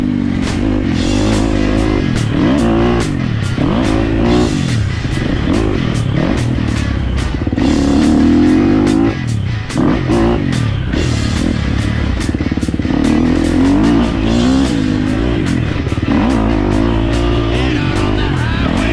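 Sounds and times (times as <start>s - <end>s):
dirt bike engine revving: 0.0s - 18.9s
music with steady beat: 0.0s - 18.9s.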